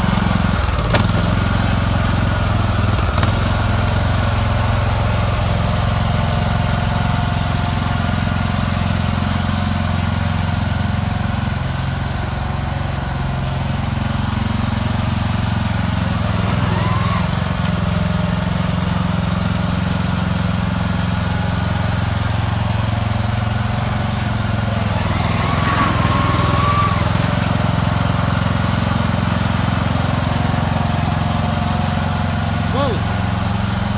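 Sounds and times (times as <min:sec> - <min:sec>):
riding lawn mower engine running: 0:00.0 - 0:33.9.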